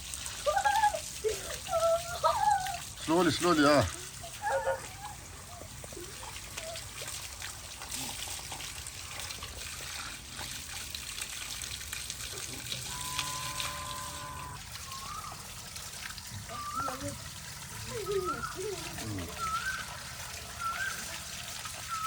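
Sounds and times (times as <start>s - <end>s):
water pouring and splashing: 0.0s - 22.0s.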